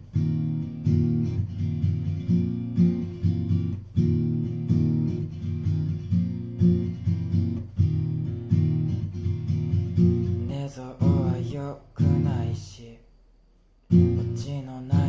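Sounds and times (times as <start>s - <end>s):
acoustic guitar strumming: 0.0s - 12.8s, 13.9s - 15.0s.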